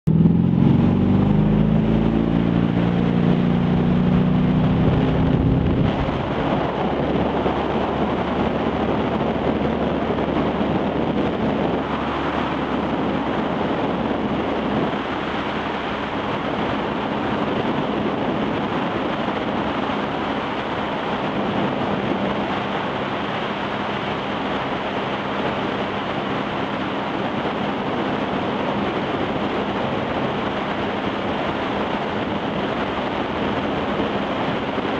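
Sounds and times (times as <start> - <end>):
boat engine running at speed: 0.0 - 34.9
wind on microphone: 0.1 - 34.9.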